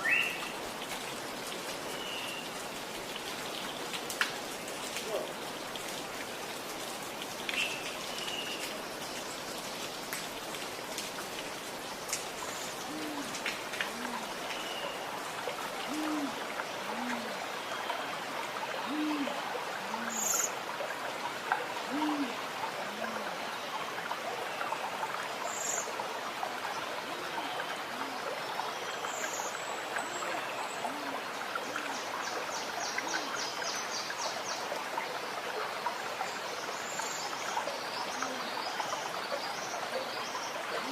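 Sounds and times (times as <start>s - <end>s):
gurgling running water: 0.0s - 40.9s.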